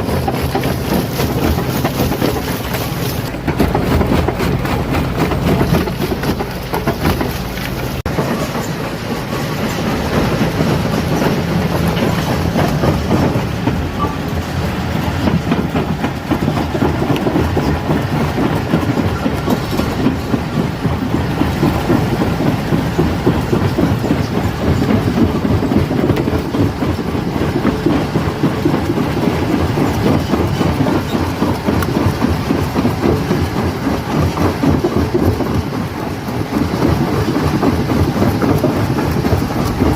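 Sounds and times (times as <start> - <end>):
stone crusher rumbling: 0.0 - 39.9.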